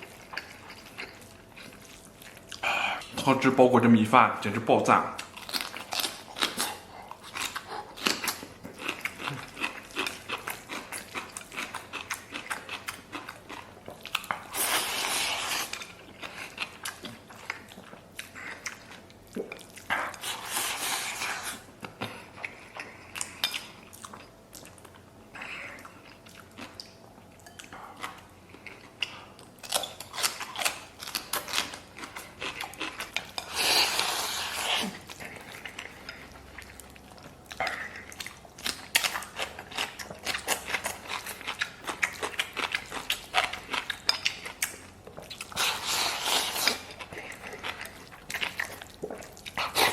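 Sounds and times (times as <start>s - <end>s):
chewing and lip-smacking: 0.0s - 3.2s, 5.1s - 49.9s.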